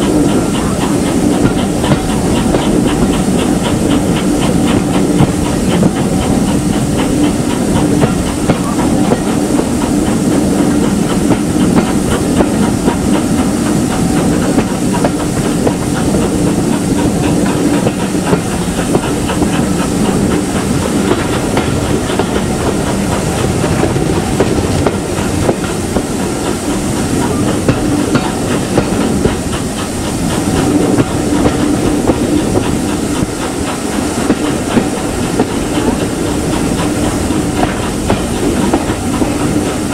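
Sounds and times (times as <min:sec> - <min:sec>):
steam train rumble and hiss: 0:00.0 - 0:39.9.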